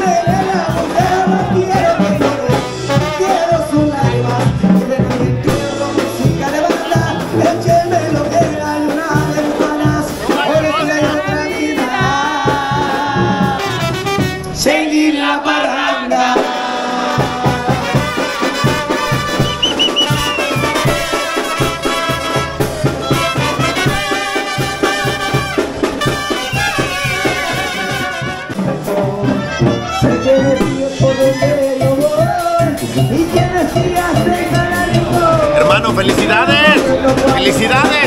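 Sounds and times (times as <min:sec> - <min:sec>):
steady drum beat: 0:00.0 - 0:14.7, 0:16.3 - 0:38.0
trumpets and trombones: 0:00.0 - 0:38.0
sousaphone bass line: 0:01.0 - 0:14.7, 0:18.6 - 0:38.0.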